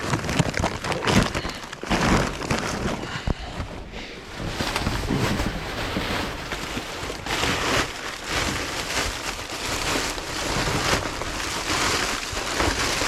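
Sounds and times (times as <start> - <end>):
plastic trash bags rustling: 0.0 - 13.0.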